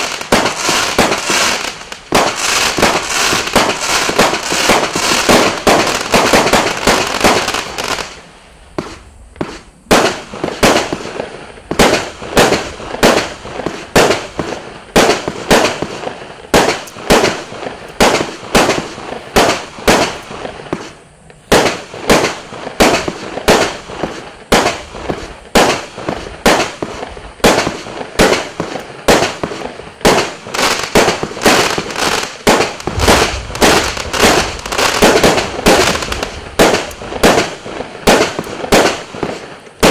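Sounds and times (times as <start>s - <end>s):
fireworks battery sharp reports: 0.0s - 39.9s.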